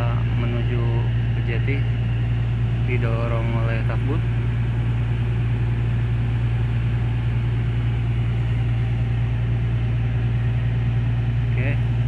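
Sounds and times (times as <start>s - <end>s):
ship diesel machinery drone: 0.0s - 12.0s.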